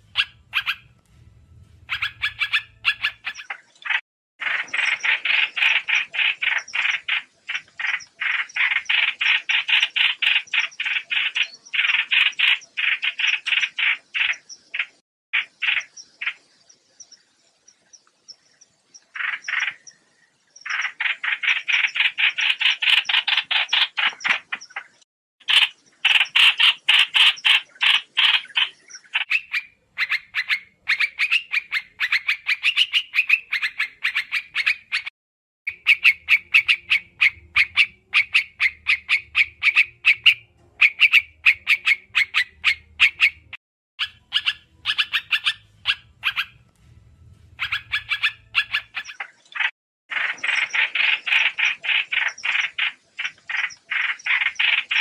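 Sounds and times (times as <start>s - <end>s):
bird chattering calls: 0.0s - 1.0s, 1.9s - 16.4s, 19.1s - 20.0s, 20.6s - 35.1s, 35.7s - 46.6s, 47.6s - 55.0s.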